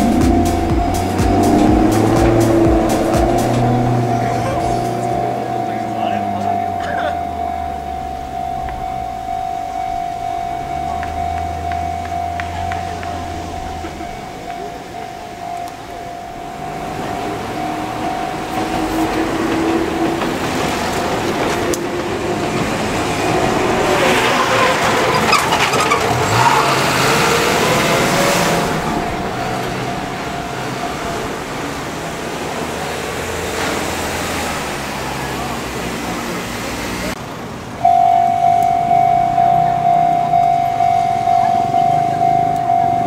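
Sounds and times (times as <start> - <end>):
level crossing bell ringing: 0.0 - 24.2, 27.0 - 33.7, 37.8 - 43.0
car traffic: 0.0 - 43.0
train passing: 0.0 - 43.0.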